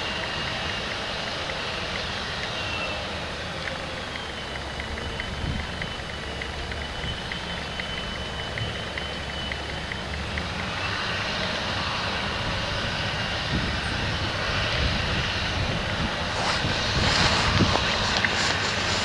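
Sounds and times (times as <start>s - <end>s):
tractor engine rumbling under load: 0.0s - 19.0s.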